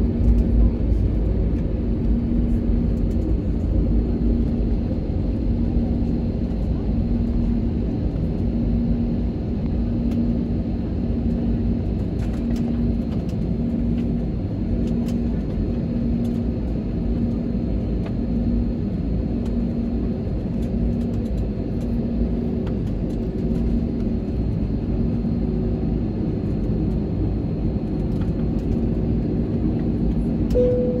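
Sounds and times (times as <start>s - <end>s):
airliner engines rumbling: 0.0s - 31.0s
high engine whine: 0.0s - 31.0s.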